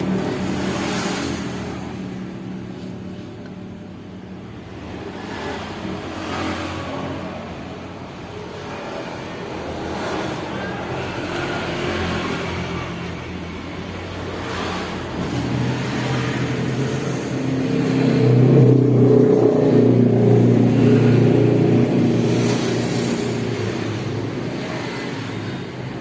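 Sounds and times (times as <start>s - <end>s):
motorcycle engine revving: 0.0s - 2.7s, 4.8s - 26.0s.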